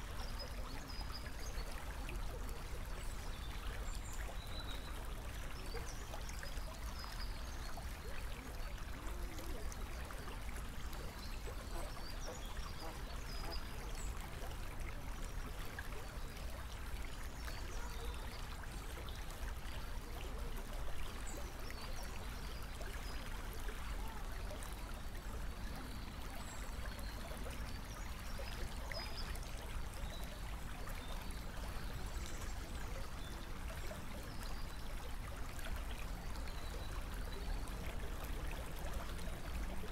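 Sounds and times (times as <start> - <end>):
flowing water trickling: 0.0 - 39.9.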